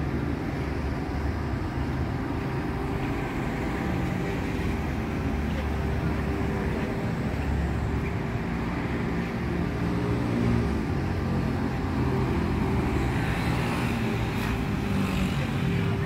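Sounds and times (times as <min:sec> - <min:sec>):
car engines on street: 0:00.0 - 0:16.0.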